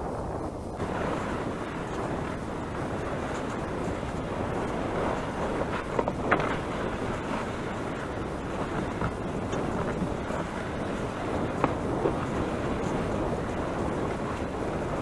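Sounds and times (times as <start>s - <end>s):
sled runners scraping snow: 0.0s - 15.0s
wind buffeting microphone: 0.0s - 15.0s.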